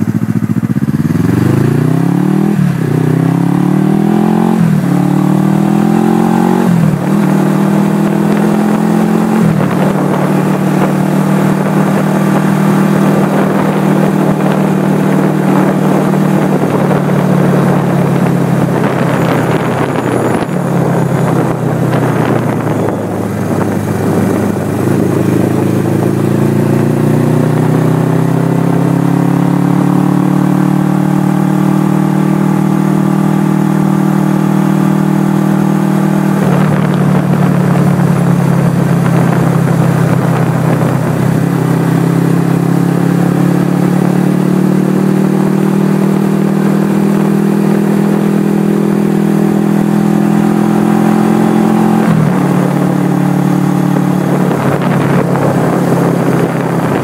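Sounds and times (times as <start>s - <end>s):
motorcycle engine accelerating: 0.0s - 57.0s
wind rush: 0.7s - 57.0s.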